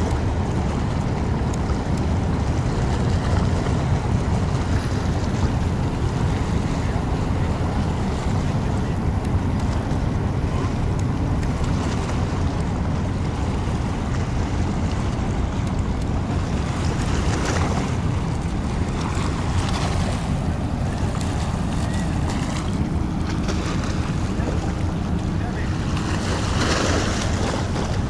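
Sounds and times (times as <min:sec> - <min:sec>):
water washing against rocky shore: 0:00.0 - 0:28.0
wind buffeting microphone: 0:00.0 - 0:28.0.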